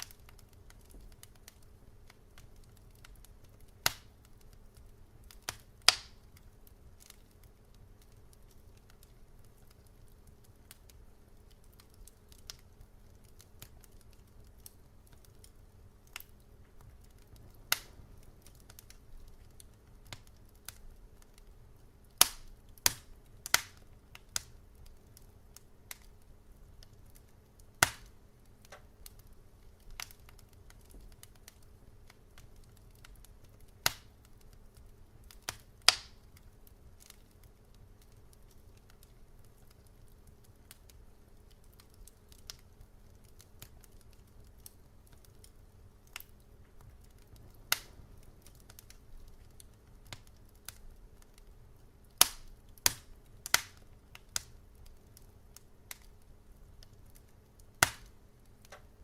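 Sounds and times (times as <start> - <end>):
faint low hum: 0.0 - 59.0
wood fire crackling: 0.0 - 59.0.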